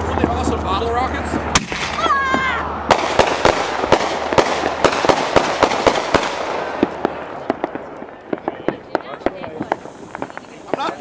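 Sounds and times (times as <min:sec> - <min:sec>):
fireworks hissing and popping: 0:00.0 - 0:11.0.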